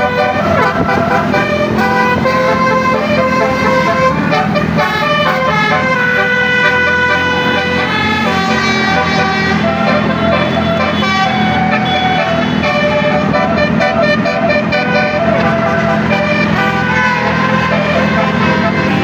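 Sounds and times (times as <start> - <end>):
multi-tone bus horn melody: 0.0 - 19.0.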